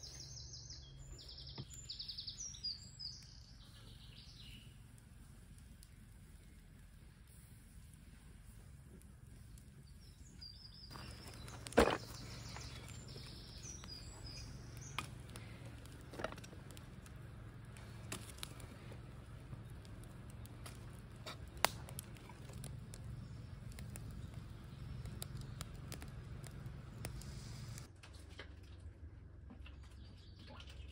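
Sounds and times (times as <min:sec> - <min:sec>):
birds chirping faintly: 0:00.0 - 0:27.9
wood fire crackling: 0:00.0 - 0:28.0
sharp pops from fire: 0:02.4 - 0:27.9.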